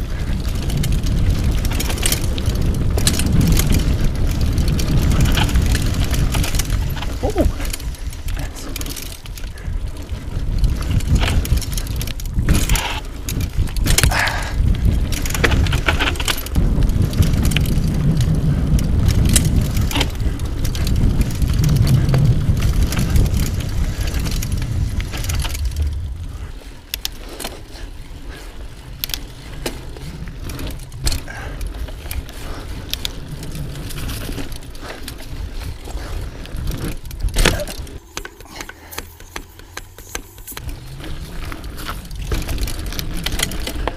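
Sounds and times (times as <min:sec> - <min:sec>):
bike frame and chain rattling: 0:00.0 - 0:43.9
bike tyres rumbling on rough ground: 0:00.0 - 0:43.9.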